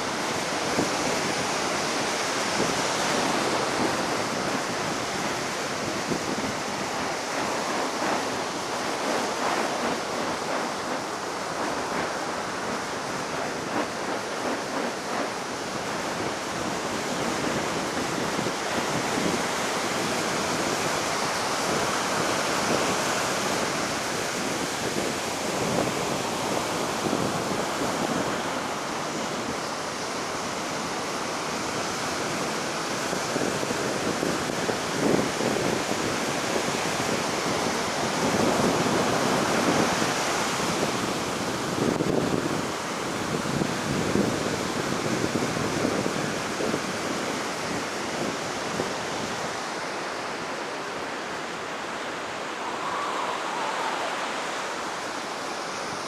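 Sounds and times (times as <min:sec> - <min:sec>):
heavy surf breaking on beach: 0:00.0 - 0:56.0.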